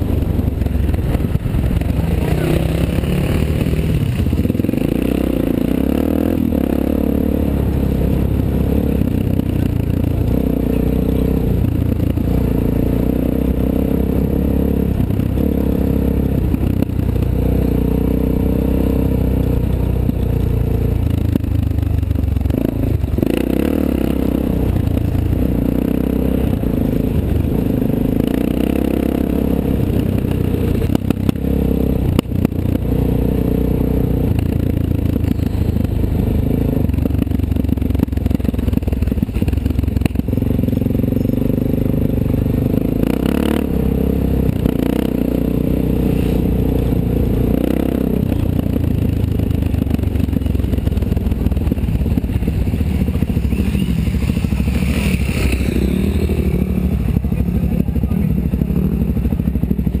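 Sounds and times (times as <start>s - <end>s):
motorcycle engine at low revs: 0.0s - 60.0s.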